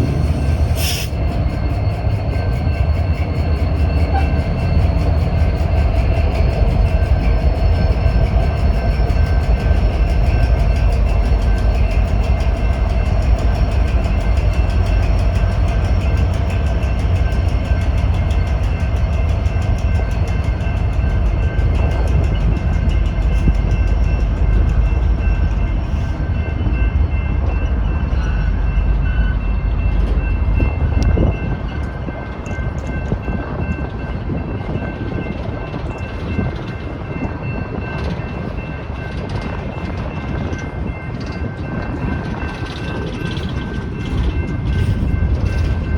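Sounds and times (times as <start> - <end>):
crossing bell ringing: 0.0 - 45.9
freight train rumbling with wheel clatter: 0.0 - 45.9.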